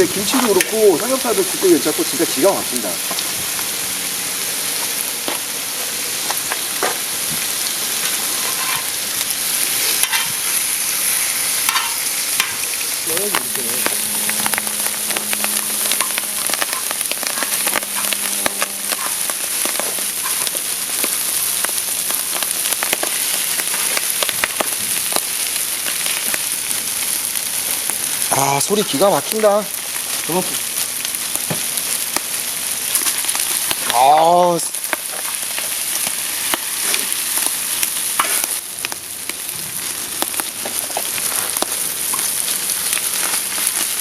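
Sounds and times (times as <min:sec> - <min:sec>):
meat sizzling on a griddle: 0:00.0 - 0:44.0.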